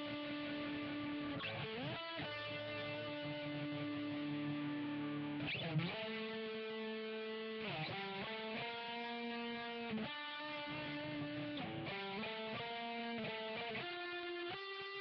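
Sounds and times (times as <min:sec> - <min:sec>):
overdriven lead electric guitar: 0:00.0 - 0:15.0.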